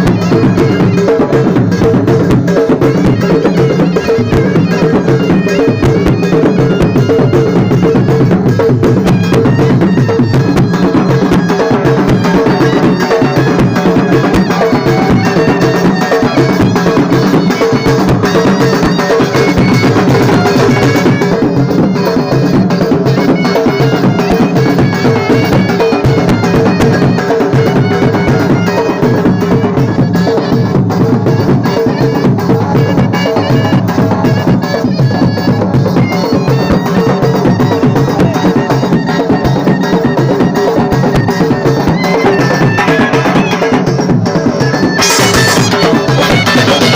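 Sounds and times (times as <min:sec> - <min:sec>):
double-reed shawm melody: 0:00.0 - 0:46.9
loud steady drumming: 0:00.0 - 0:46.9.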